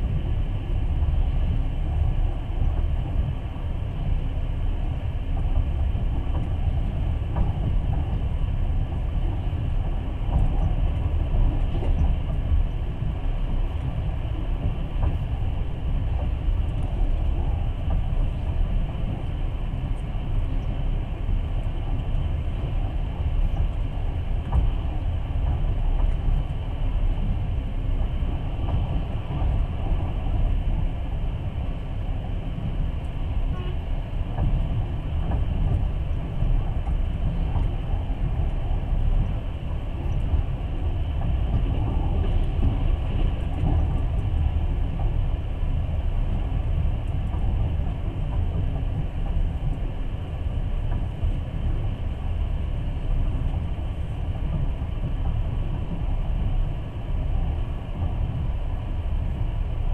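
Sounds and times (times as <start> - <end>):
train rumble inside carriage: 0.0 - 59.9.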